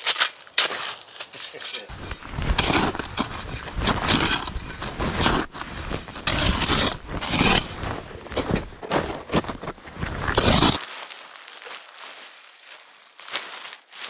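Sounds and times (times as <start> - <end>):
crunching on hard snow: 0.0 - 14.0
jacket fabric rustling: 1.8 - 14.0.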